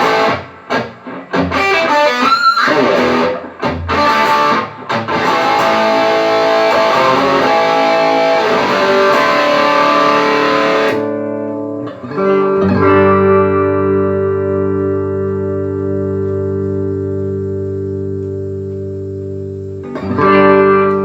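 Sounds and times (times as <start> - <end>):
distorted electric guitar chords: 0.0 - 21.0.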